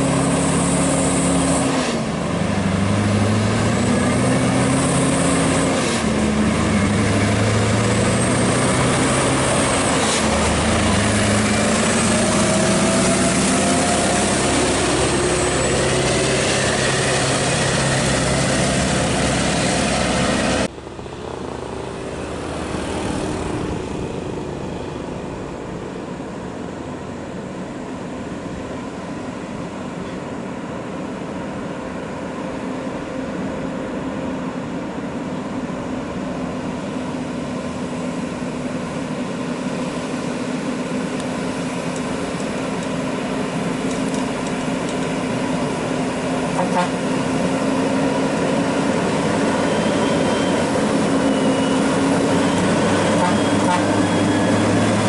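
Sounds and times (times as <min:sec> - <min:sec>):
diesel truck engine under load: 0:00.0 - 0:55.0
quiet vehicle noise: 0:01.7 - 0:55.0.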